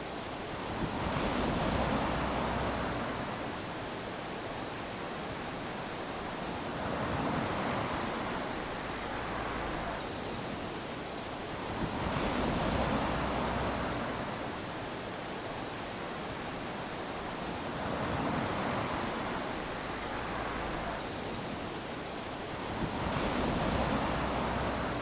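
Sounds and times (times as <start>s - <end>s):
small waves lapping on shore: 0.0s - 25.0s.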